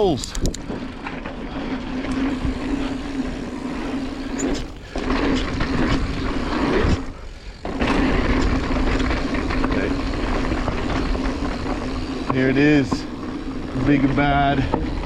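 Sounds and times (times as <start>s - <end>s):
mountain bike tyre noise: 0.0s - 15.0s
steady buzz: 1.6s - 15.0s.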